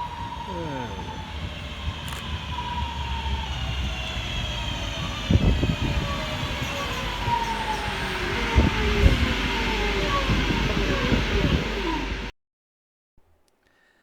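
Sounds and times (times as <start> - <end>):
low train rumble: 0.0 - 12.3
train traction motors whining: 0.0 - 12.3.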